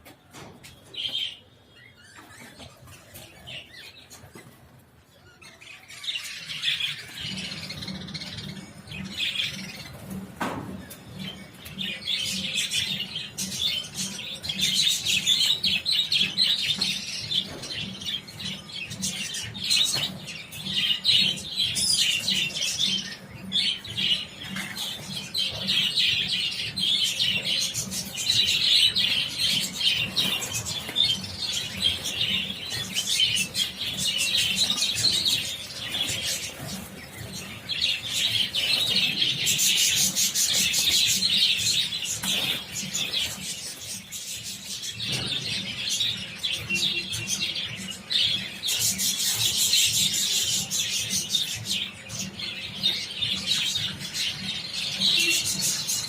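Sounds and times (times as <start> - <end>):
budgerigars chattering and chirping: 0.6 - 56.0.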